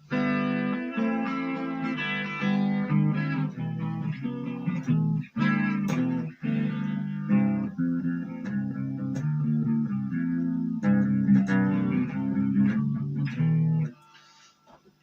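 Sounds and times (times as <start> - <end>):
electric guitar through amp: 0.0 - 14.4.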